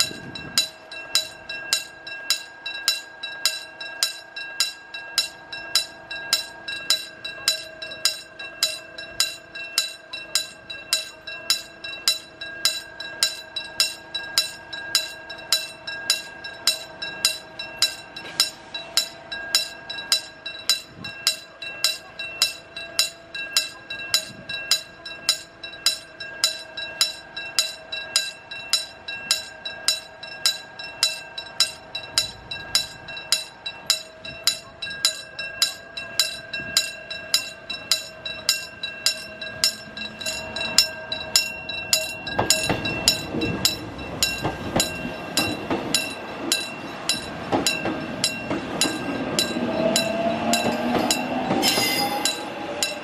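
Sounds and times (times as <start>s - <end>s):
faint electric train: 0.0s - 53.0s
level crossing warning bell: 0.0s - 53.0s.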